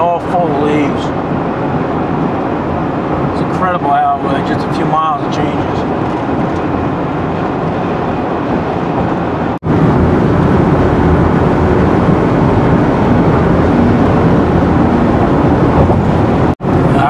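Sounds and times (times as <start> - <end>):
car road noise at highway speed: 0.0 - 17.0.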